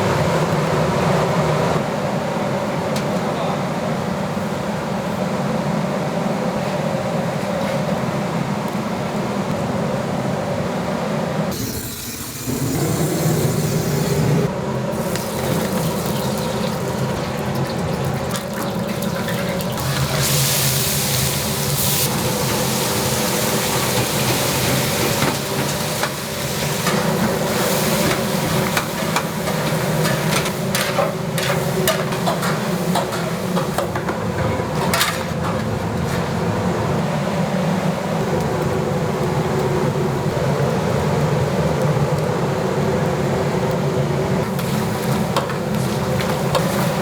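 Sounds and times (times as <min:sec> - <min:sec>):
equipment hum: 0:00.0 - 0:47.0.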